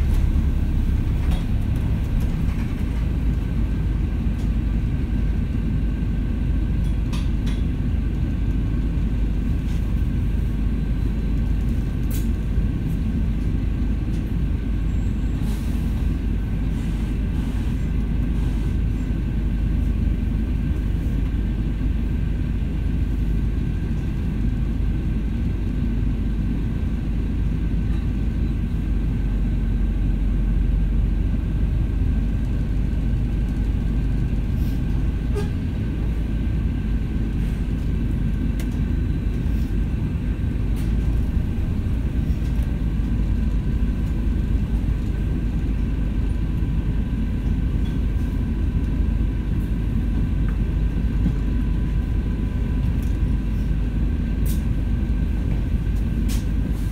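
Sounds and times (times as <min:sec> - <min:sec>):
bus drivetrain and road rumble: 0:00.0 - 0:56.9.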